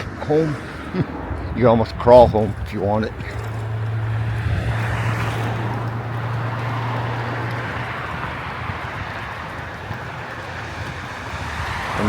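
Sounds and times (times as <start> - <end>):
steady low hum: 0.0 - 12.0
street traffic: 0.0 - 12.0
wind noise: 0.0 - 12.0.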